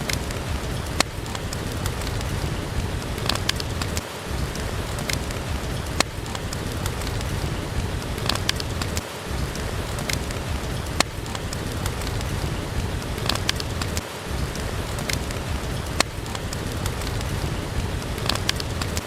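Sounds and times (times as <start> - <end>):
rain hiss: 0.0 - 19.0
wood fire crackling and popping: 0.0 - 19.0.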